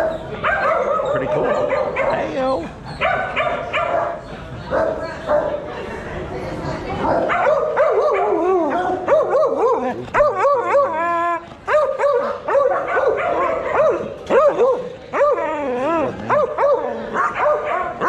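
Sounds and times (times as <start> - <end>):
dogs barking and yelping: 0.0 - 5.7, 7.0 - 18.0.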